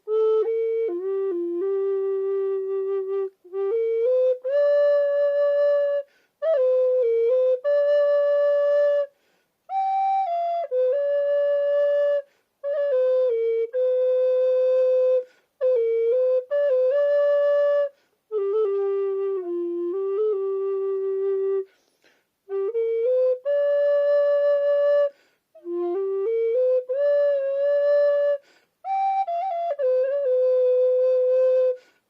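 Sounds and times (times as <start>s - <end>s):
alto recorder playing: 0.0s - 32.0s.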